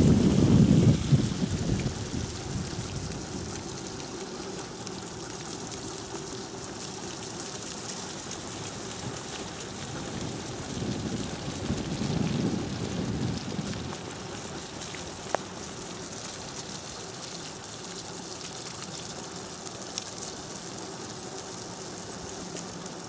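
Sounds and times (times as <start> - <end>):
rushing water hiss: 0.0 - 23.0.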